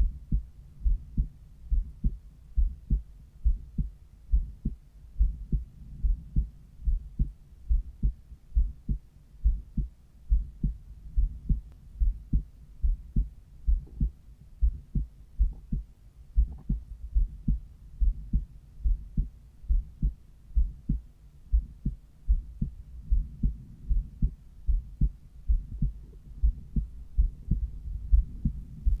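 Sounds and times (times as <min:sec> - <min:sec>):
heartbeat through stethoscope: 0:00.0 - 0:29.0.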